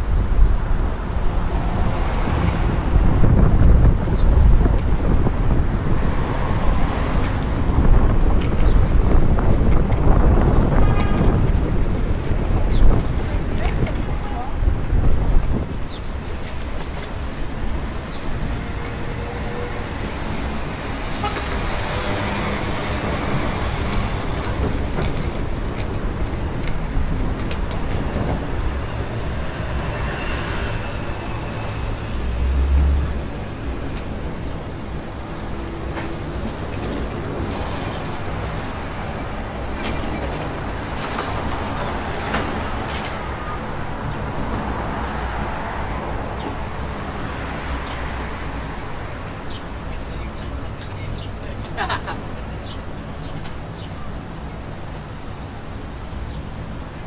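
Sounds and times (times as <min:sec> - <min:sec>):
cars and buses passing: 0:00.0 - 0:57.0.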